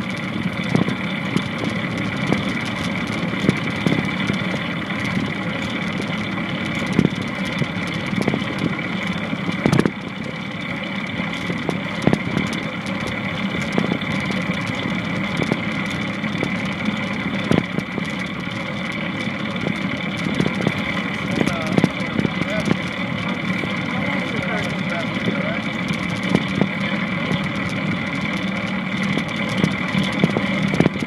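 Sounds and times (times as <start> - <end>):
skateboard wheels rolling on pavement: 0.0 - 31.0.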